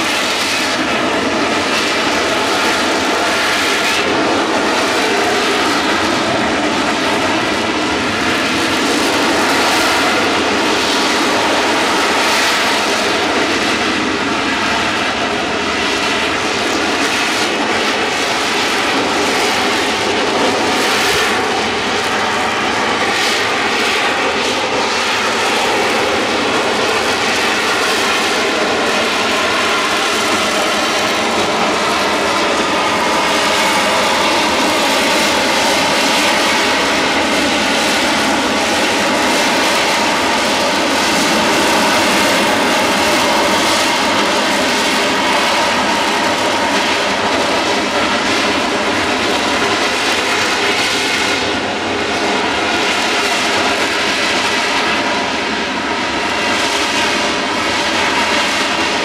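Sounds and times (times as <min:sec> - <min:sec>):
jet engine roar and whine: 0:00.0 - 0:59.0.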